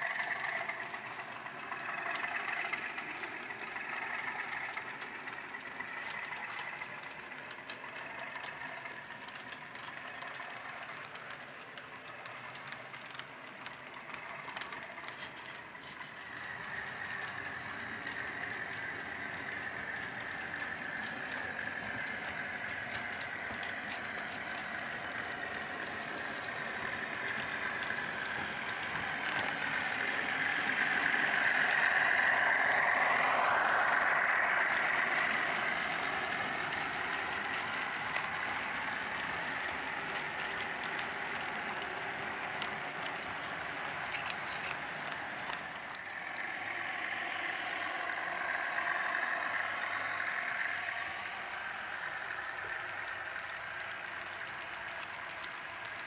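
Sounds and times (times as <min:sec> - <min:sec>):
model locomotive running drone: 0:00.0 - 0:56.0
wheels clicking over track joints: 0:00.0 - 0:56.0.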